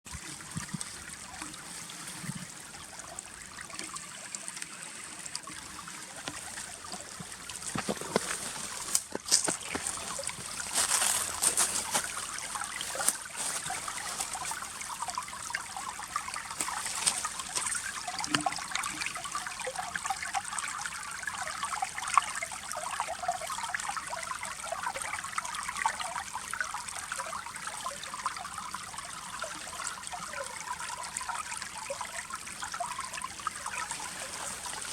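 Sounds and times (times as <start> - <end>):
stream water babbling: 0.1 - 34.9.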